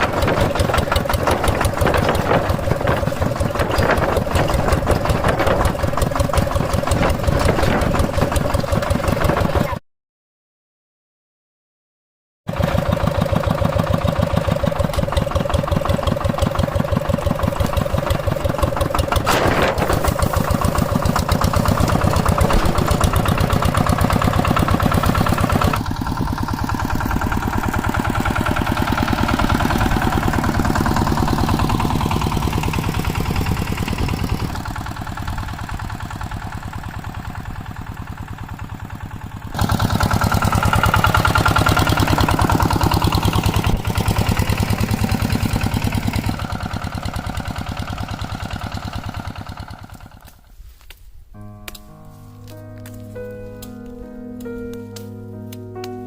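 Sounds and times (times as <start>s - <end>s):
tractor engine chugging: 0.0s - 9.8s, 12.5s - 56.0s.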